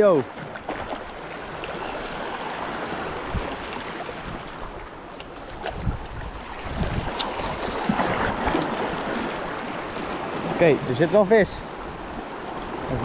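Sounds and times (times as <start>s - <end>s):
ocean surf over rocks: 0.0s - 13.0s.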